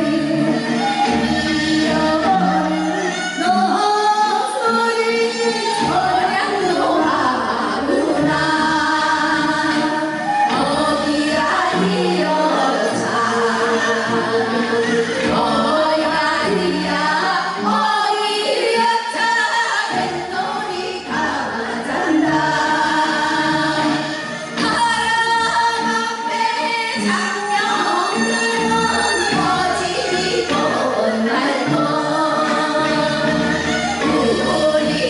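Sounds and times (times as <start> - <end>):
women singing folk song: 0.0 - 35.0.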